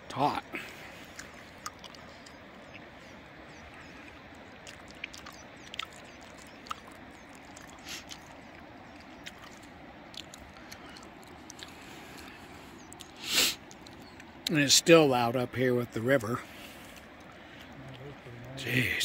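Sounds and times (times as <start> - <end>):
wet chewing clicks: 0.6 - 14.5, 16.9 - 18.6.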